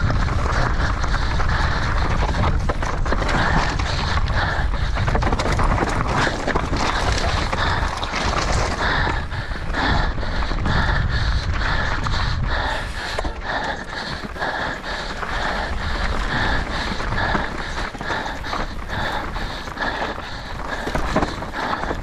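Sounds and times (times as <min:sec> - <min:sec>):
bike on trail: 0:00.0 - 0:22.0
person panting: 0:00.0 - 0:22.0
wind rumble: 0:00.0 - 0:22.0.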